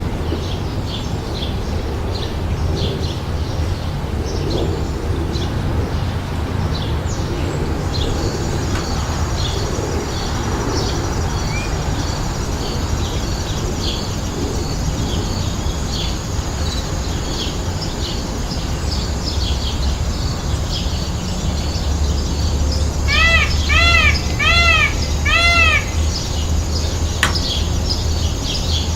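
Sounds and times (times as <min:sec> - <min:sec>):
small birds chirping: 0:00.0 - 0:28.9
steady low rumble: 0:00.0 - 0:28.9.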